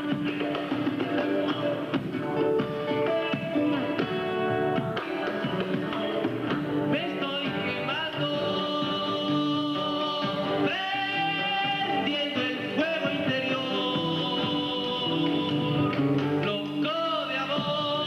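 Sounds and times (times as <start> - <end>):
man singing: 0.0 - 2.0, 5.2 - 18.0
hand drums: 0.0 - 18.0
strummed acoustic guitar: 0.0 - 18.0.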